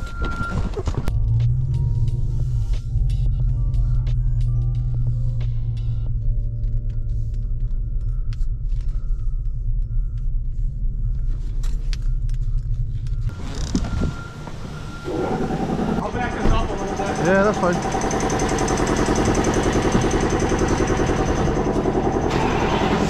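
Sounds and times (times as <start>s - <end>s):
vehicle engine rumble: 0.0s - 23.0s
road noise inside car: 0.1s - 23.0s.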